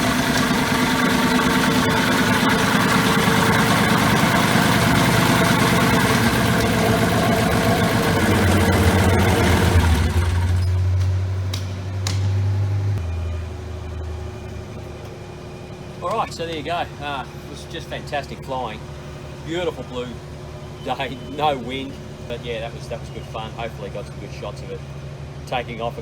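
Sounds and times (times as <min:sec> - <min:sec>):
low hum: 0:00.0 - 0:25.5
radial engine running: 0:00.0 - 0:26.0.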